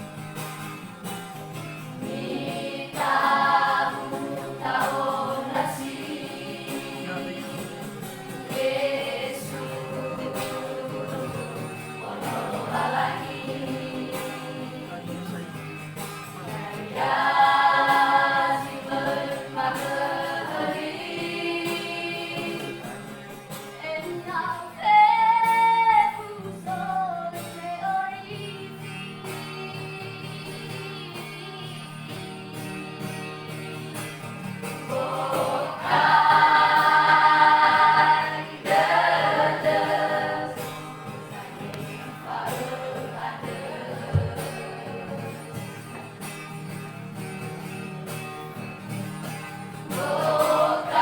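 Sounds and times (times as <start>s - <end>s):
vocal group singing gospel: 1.8s - 23.4s, 28.2s - 46.2s, 49.7s - 51.0s.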